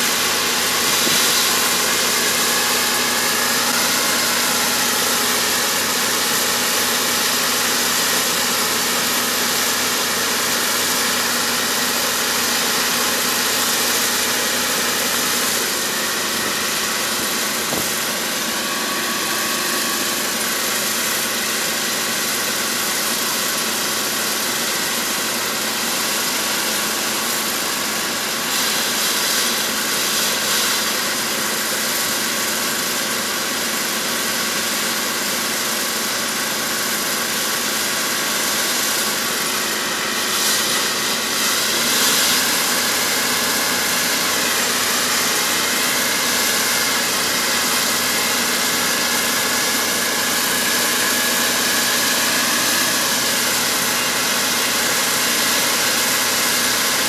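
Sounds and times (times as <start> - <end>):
distant combine harvester running: 0.0 - 57.0.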